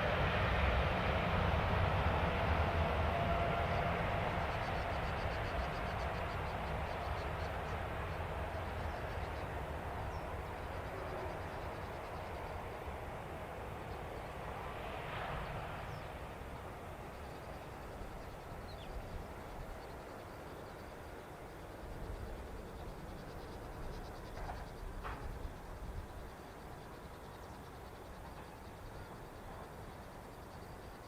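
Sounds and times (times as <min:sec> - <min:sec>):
jet airliner engine roar: 0:00.0 - 0:31.0.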